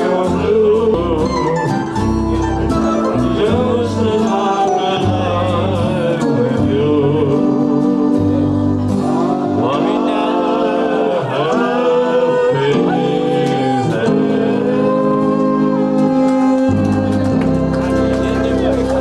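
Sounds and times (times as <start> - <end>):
keyboard organ chords: 0.0 - 19.0
person singing: 0.0 - 19.0.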